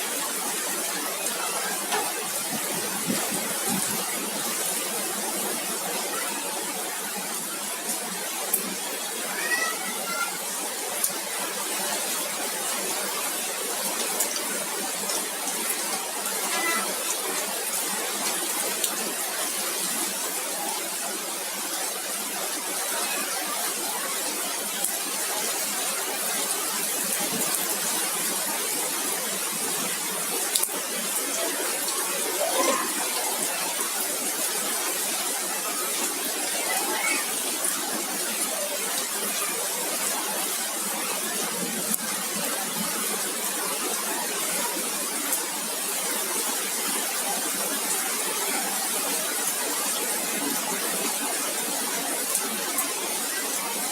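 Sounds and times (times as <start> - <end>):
heavy rain and hail hiss: 0.0 - 53.9.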